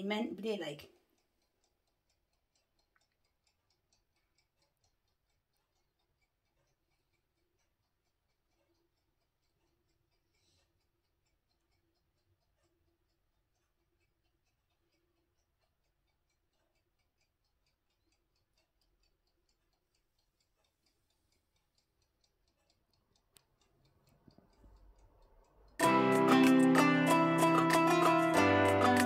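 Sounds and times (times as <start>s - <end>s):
faint ticking: 0.0s - 29.0s.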